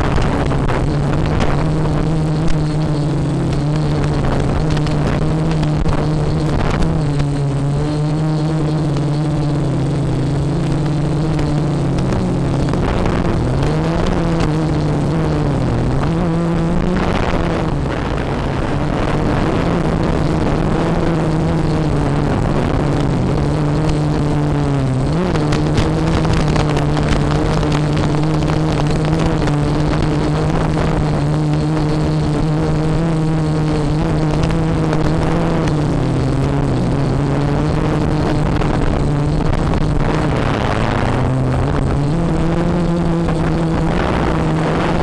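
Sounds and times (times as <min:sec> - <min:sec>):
quadcopter motors humming: 0:00.0 - 0:45.0.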